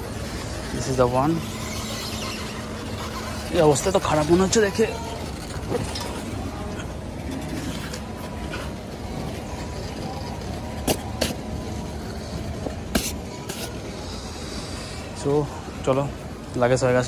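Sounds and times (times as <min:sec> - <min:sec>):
hum of baggage carousel hall: 0:00.0 - 0:17.0.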